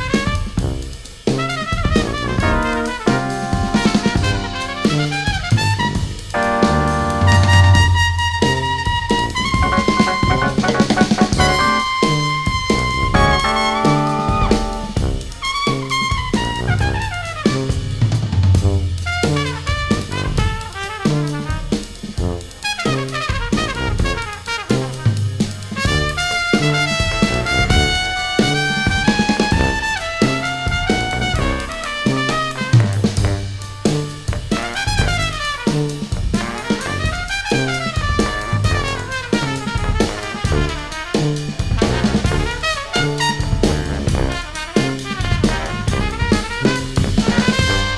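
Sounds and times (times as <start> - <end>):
drum kit with cymbals: 0.0 - 47.9
trumpets playing melody: 0.0 - 47.9.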